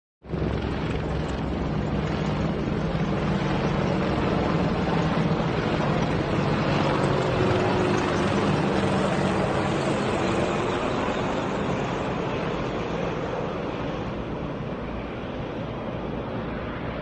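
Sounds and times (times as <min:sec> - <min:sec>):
helicopter rotor and turbine: 0:00.2 - 0:17.0.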